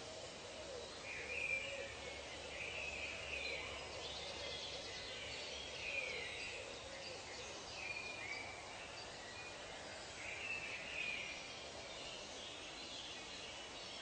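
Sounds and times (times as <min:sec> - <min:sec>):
steady ambient hiss: 0:00.0 - 0:14.0.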